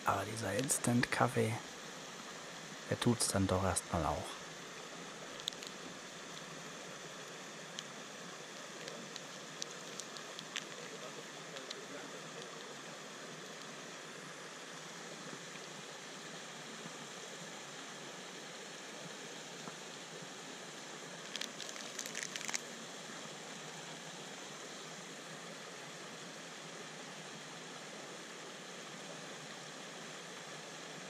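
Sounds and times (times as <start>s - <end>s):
creek rushing: 0.0s - 31.0s.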